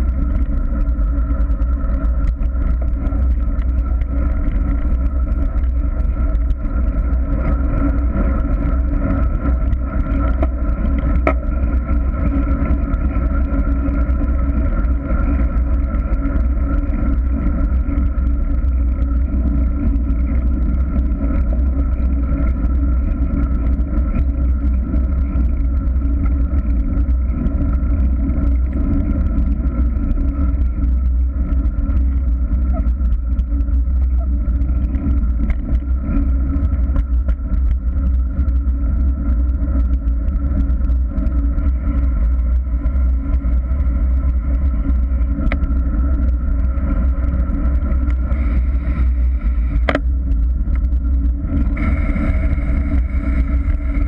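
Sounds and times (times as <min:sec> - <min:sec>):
road rumble: 0:00.0 - 0:54.0
steady hum: 0:00.0 - 0:54.0
wind on microphone: 0:00.0 - 0:54.0.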